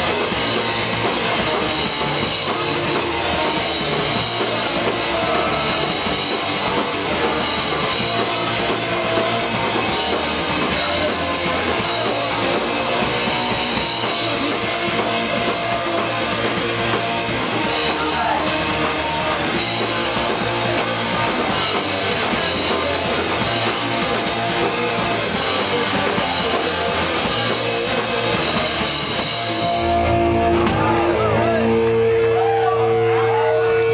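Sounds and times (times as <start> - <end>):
person singing: 0.0 - 29.6
punk rock band playing: 0.0 - 33.9.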